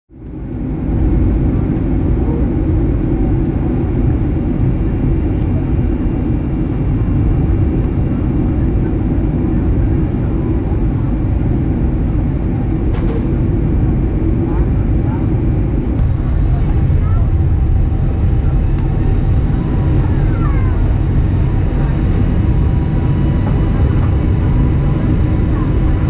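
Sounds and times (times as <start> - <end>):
airliner cabin engine drone: 0.1 - 26.0.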